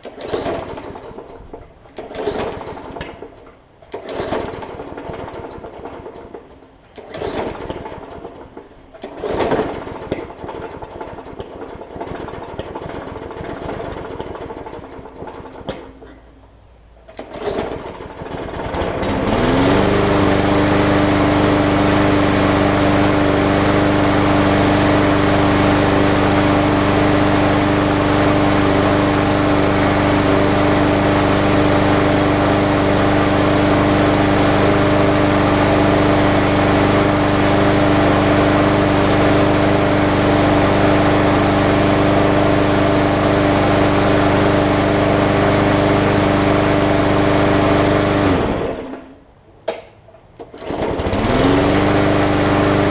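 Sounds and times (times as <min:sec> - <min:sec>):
lawn mower engine starting and running: 0:00.0 - 0:52.9.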